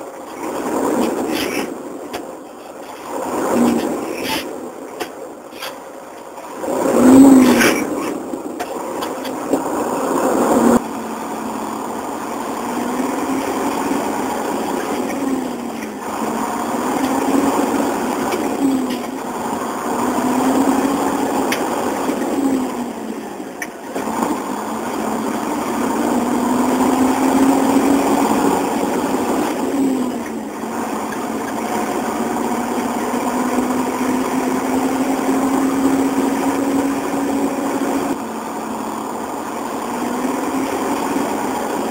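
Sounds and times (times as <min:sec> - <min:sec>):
truck engine shifting gears: 0:00.0 - 0:41.9.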